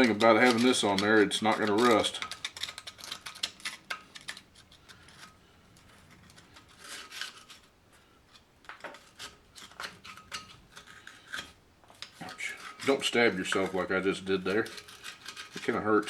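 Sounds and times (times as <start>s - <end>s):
hand tool scraping mud off metal: 0.0s - 16.0s.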